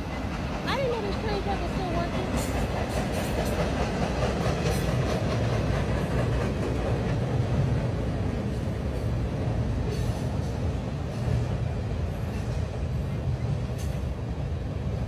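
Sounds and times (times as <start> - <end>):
train wheels clicking: 0.0 - 14.3
train rumbling by: 0.0 - 15.0.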